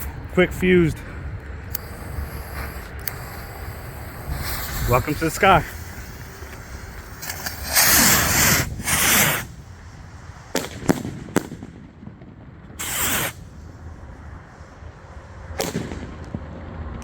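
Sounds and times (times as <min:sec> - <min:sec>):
firework rockets hissing: 0:00.6 - 0:16.4
firework bangs: 0:01.4 - 0:17.0.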